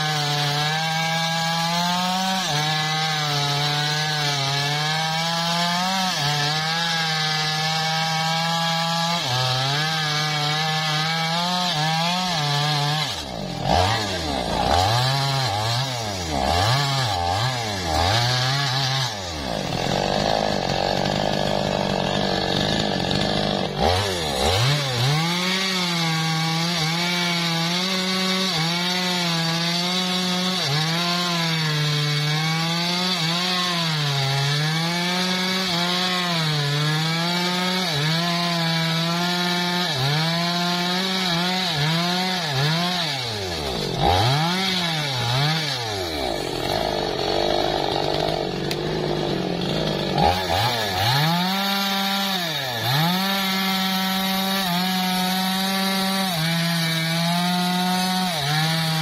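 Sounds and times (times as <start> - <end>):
chainsaw cutting a log: 0.0 - 59.0.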